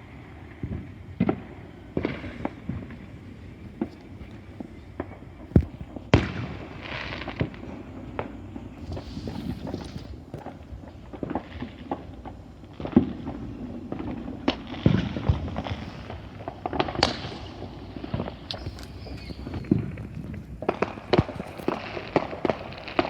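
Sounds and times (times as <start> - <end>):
fireworks bangs and pops: 0.0 - 23.0
firecracker cracks: 0.6 - 23.0.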